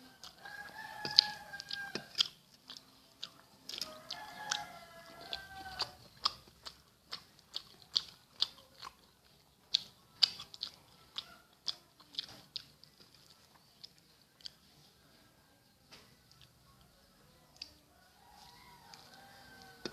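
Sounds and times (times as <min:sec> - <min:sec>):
chewing and mouth smacks: 0:00.1 - 0:14.7, 0:18.4 - 0:19.9.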